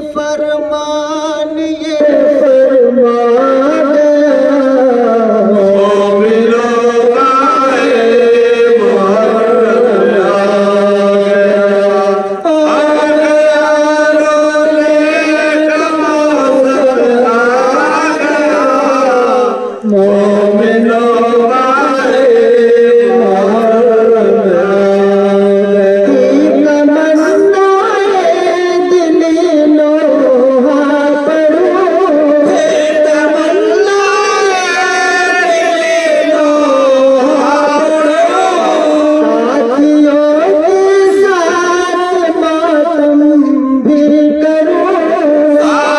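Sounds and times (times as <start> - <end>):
man chanting a lament: 0.0 - 45.9.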